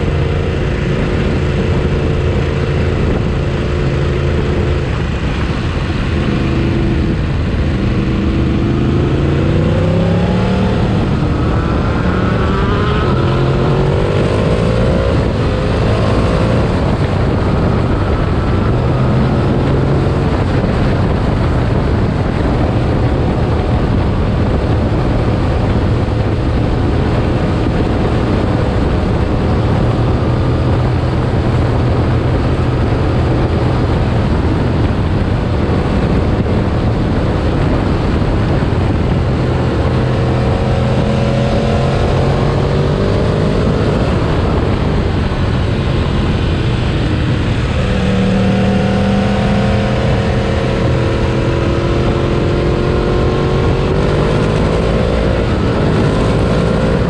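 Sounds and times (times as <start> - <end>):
motorcycle engine accelerating: 0.0 - 57.0
riding wind rush: 0.0 - 57.0.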